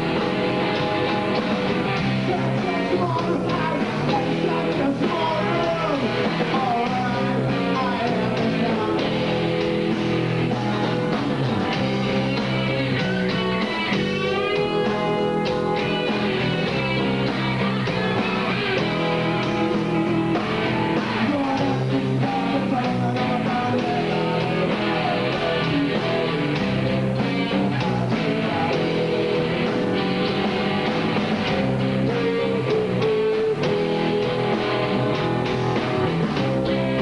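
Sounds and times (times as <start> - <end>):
rock band playing live: 0.0 - 37.0.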